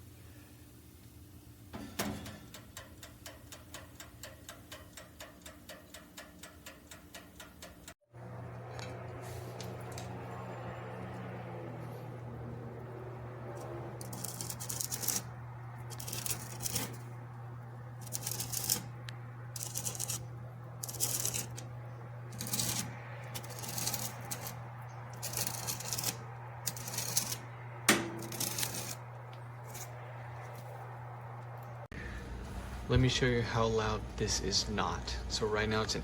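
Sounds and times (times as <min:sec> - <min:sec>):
oven fan humming: 0:00.0 - 0:36.0.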